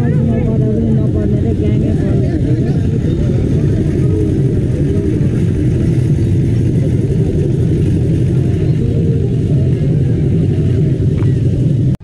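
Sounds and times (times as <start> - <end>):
crowd babble: 0.0 - 12.0
heavy low rumble: 0.0 - 12.0.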